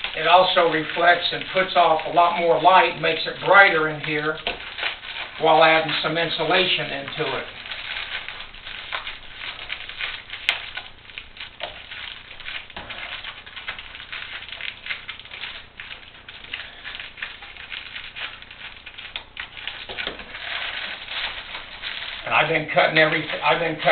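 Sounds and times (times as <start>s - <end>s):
foil insulation crinkling: 0.0s - 23.9s.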